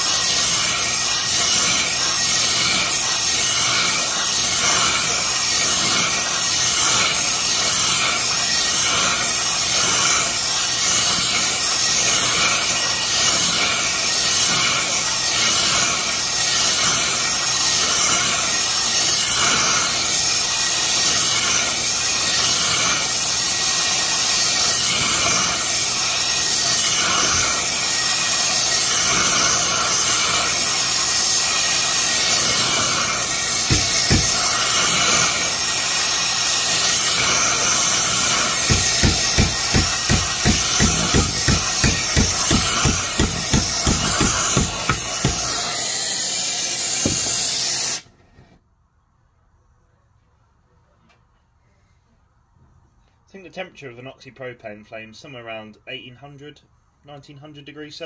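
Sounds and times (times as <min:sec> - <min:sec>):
torch flame hissing: 0:00.0 - 0:48.5.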